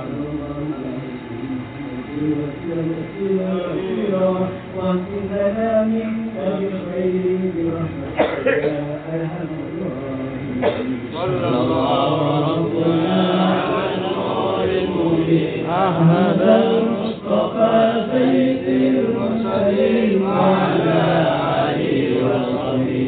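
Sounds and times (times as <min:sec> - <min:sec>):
man chanting into a microphone: 0:00.0 - 0:23.0.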